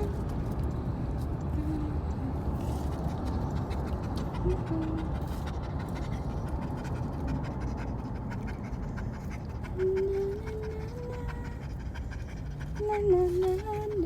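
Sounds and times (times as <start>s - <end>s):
low background rumble: 0.0s - 14.0s
dog panting: 2.6s - 14.0s.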